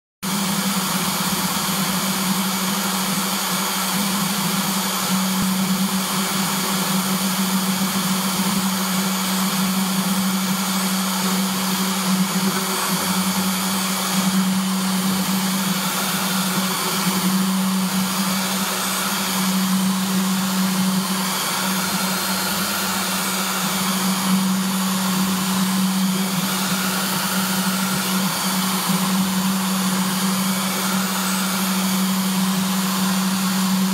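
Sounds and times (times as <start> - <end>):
spindle motor humming: 0.3 - 33.9
stepper motor tones: 3.2 - 33.9.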